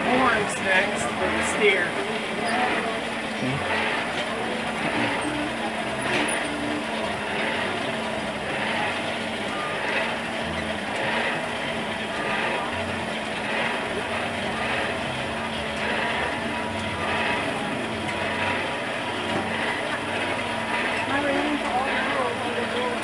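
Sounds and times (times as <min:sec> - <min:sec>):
forge air blower humming: 0:00.0 - 0:23.0.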